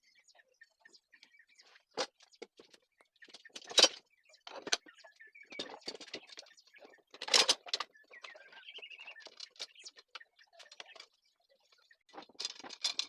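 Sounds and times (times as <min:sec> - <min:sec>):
faint bird chirps: 0:00.0 - 0:12.2.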